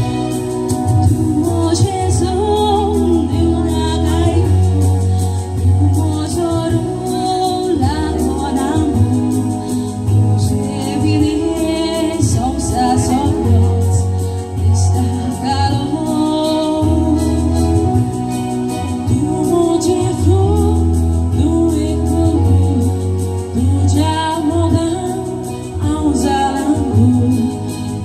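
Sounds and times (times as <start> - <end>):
bass: 0.0 - 28.0
keyboard chords: 0.0 - 28.0.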